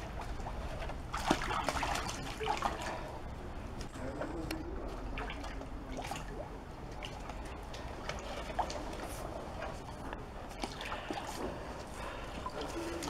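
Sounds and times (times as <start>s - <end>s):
small splashes and drips: 0.0s - 3.2s, 4.5s - 13.0s
water sloshing and splashing: 0.0s - 13.0s.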